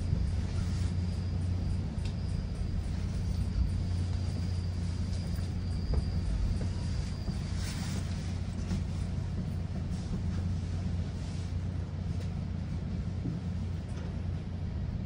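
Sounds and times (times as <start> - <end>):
thin high whine: 0.0 - 12.2
train low rumble: 0.0 - 15.0.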